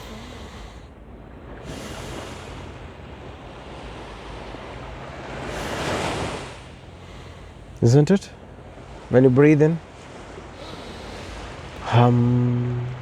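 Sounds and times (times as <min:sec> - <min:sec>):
ocean surf washing in: 0:00.0 - 0:13.0.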